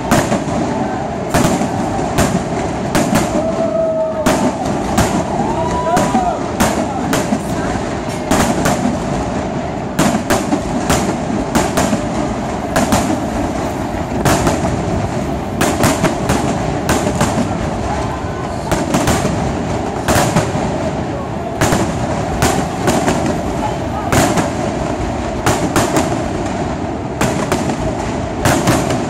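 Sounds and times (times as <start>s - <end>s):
continuous rumbling: 0.0s - 29.0s
fireworks bangs and crackles: 0.0s - 29.0s.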